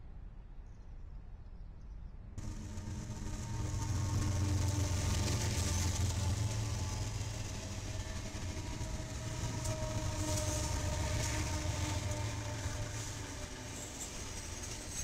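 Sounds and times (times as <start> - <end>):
diesel locomotive engine rumble: 2.4 - 15.0
faint steady whine: 2.4 - 15.0.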